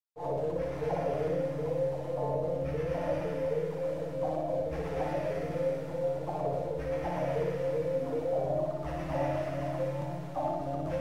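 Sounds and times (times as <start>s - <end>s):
ambient electronic music: 0.2s - 11.0s.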